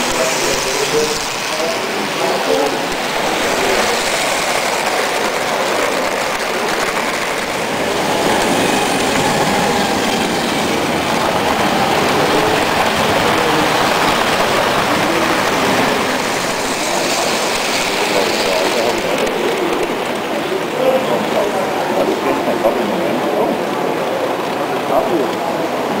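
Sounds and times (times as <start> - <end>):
model trains rattling on track: 0.0 - 26.0.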